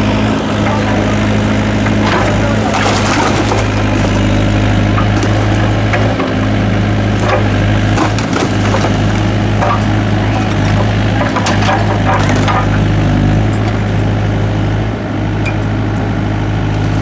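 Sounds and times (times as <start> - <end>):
bricks cracking and clattering: 0.0 - 13.8
diesel engine running: 0.0 - 17.0.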